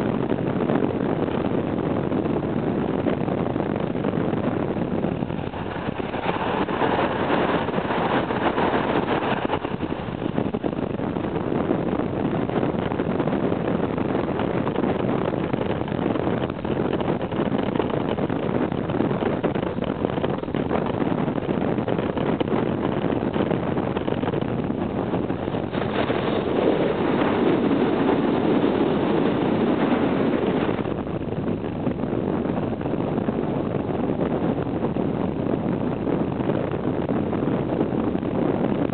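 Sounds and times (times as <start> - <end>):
motorcycle engine drone: 0.0 - 38.9
wind on microphone: 0.0 - 38.9.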